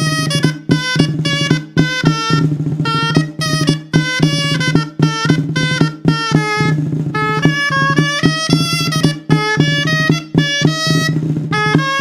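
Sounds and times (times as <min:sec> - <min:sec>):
instrumental dance music: 0:00.0 - 0:12.0.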